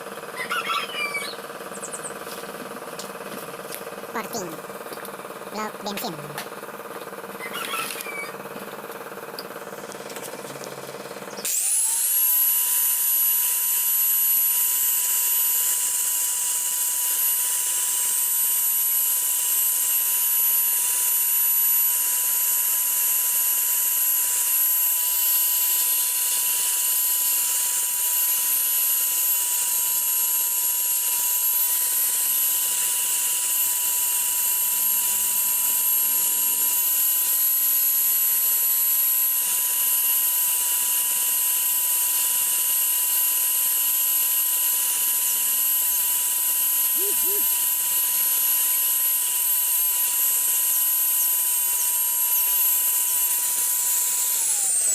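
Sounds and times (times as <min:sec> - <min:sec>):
rotary grinder whining: 0:00.0 - 0:54.9.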